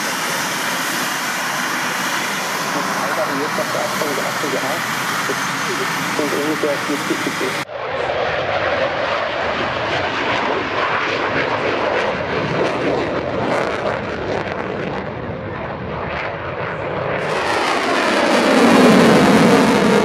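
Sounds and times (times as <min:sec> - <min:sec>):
jet engine roar in flight: 0:00.0 - 0:20.0.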